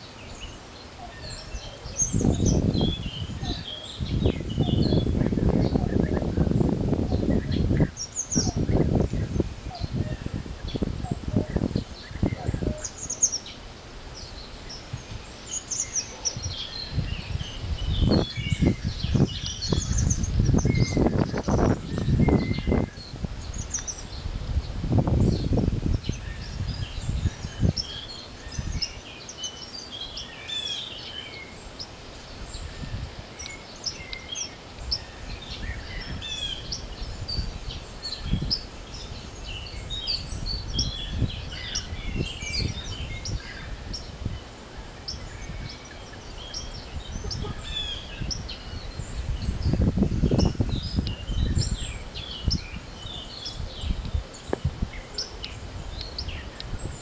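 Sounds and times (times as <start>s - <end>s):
small birds chirping: 0.0s - 57.0s
wind buffeting microphone: 1.2s - 13.2s, 14.1s - 29.0s, 32.2s - 57.0s.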